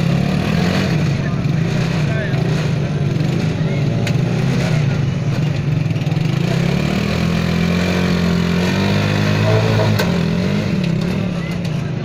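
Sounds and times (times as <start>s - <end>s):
motorcycle rickshaw engine under load: 0.0s - 12.0s.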